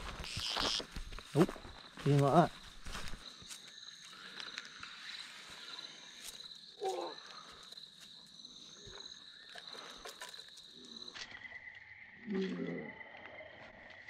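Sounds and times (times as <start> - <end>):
insects pulsing trill: 0.0 - 14.0.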